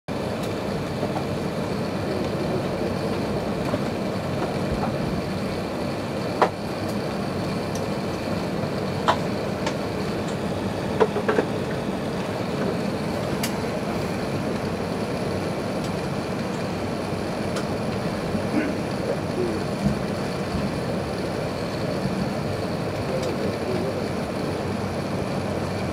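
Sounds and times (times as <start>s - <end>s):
aircraft cabin hum and hiss: 0.1s - 25.9s.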